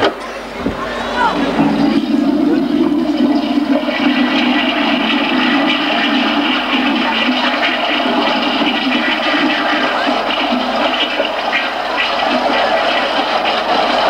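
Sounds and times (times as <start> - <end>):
audience applauding: 0.8 - 14.0.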